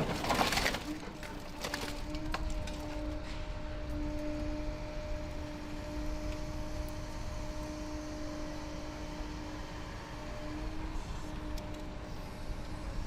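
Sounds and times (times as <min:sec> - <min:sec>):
industrial machinery droning: 0:00.0 - 0:13.0.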